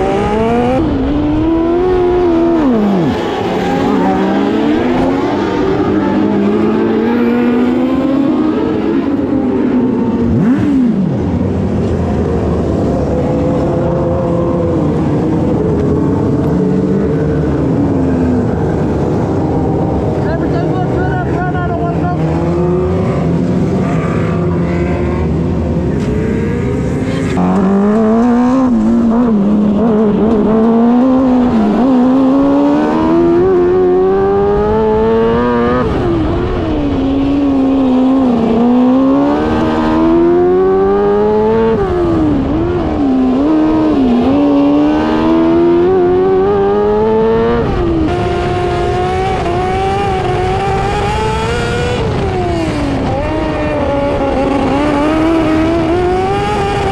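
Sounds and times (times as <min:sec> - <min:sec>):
motorcycle engine revving hard: 0:00.0 - 0:56.9.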